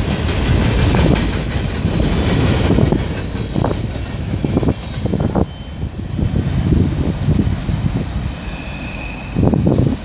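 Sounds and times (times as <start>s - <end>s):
steel wheels rumbling on rails: 0.0s - 10.0s.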